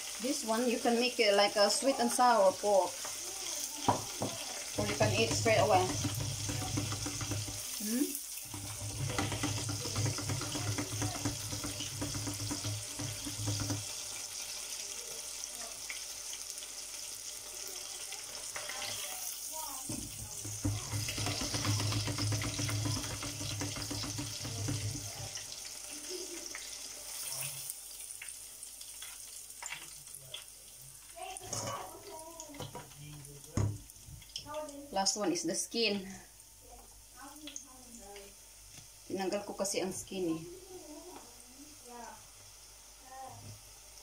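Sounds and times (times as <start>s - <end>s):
meat deep-frying in oil: 0.0s - 44.0s.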